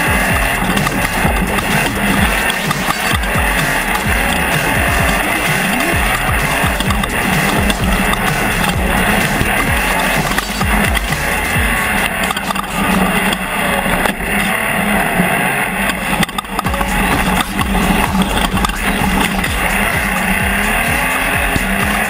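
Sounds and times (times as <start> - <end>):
buggy engine running hard: 0.0 - 22.0
tyres on loose dirt: 0.0 - 22.0.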